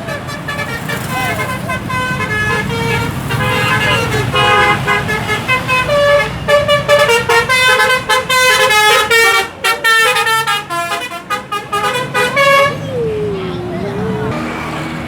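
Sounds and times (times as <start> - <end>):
musical bus horn tune: 0.0 - 13.0
engine rumble: 0.0 - 15.0.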